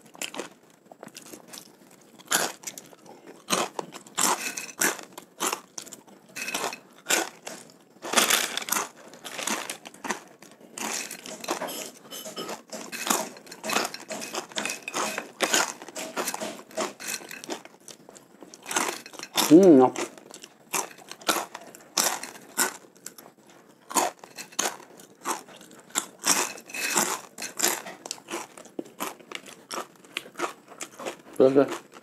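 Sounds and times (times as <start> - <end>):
crunching and chewing crispy snack: 0.0 - 32.0.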